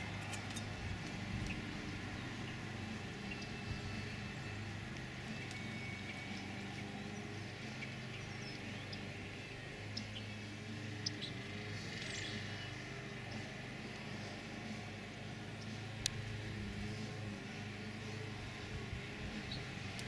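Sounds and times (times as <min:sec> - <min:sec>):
low steady hum: 0:00.0 - 0:20.0
faint high chirps and ticks: 0:00.2 - 0:16.4.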